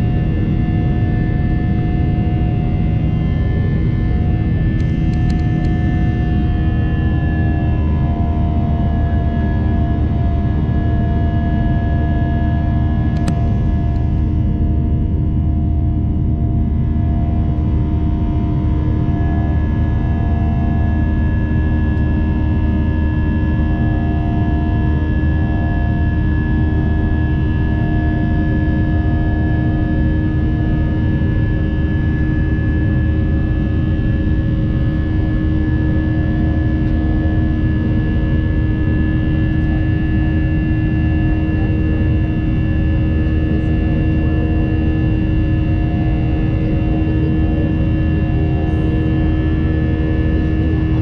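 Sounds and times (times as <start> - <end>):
jet engines rumbling in cabin: 0.0 - 51.0.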